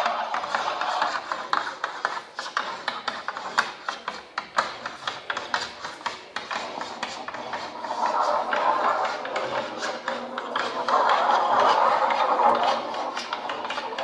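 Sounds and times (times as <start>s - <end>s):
drawing tools scratching on paper: 0.0s - 14.0s.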